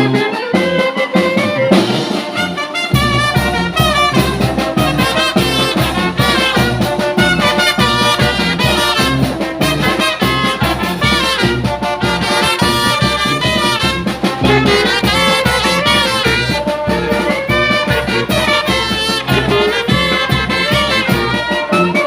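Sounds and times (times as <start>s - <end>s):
horns carrying melody: 0.0s - 22.0s
steady drum beat: 0.0s - 22.0s.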